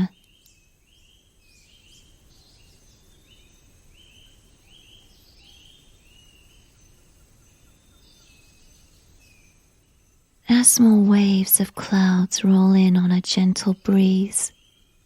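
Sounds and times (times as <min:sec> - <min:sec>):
low forest background: 0:00.0 - 0:15.0.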